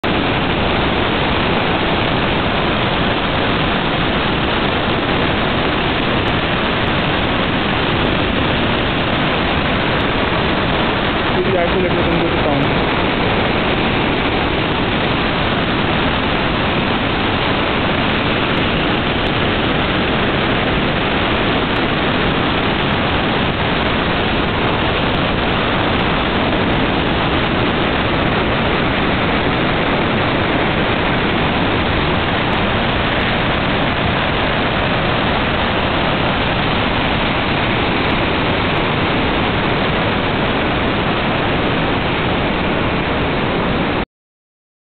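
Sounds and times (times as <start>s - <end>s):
whitewater rapids rushing over boulders: 0.0s - 44.0s.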